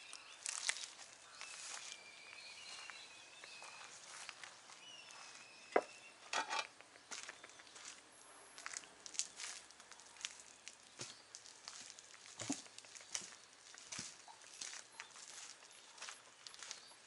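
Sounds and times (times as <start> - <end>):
footsteps on rough concrete: 0.5 - 8.0, 8.6 - 17.0.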